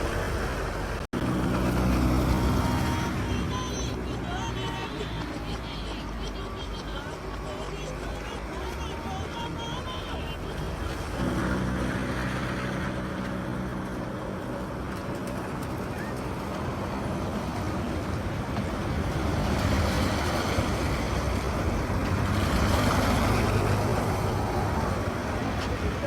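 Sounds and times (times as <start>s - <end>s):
vehicle engines running: 0.0s - 26.0s
vehicle passing close: 0.0s - 26.0s.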